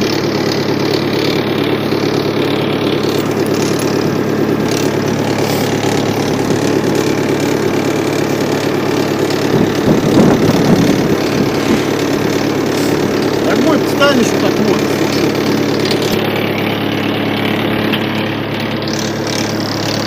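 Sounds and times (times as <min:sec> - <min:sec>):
small tractor engine running: 0:00.0 - 0:20.0.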